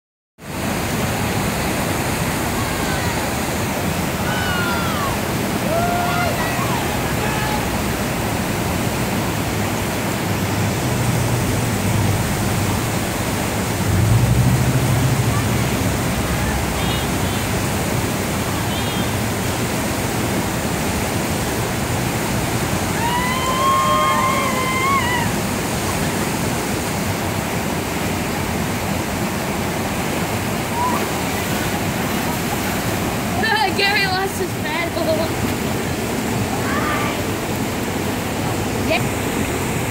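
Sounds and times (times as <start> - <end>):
water rushing over boulders: 0.4 - 39.9.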